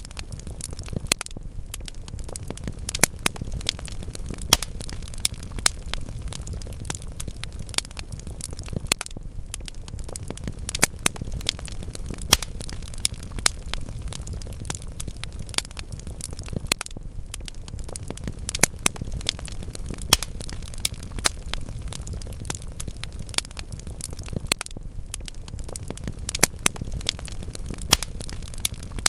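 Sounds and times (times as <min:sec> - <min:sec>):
crackles and pops of burning logs: 0:00.0 - 0:29.0
wood fire burning: 0:00.0 - 0:29.0.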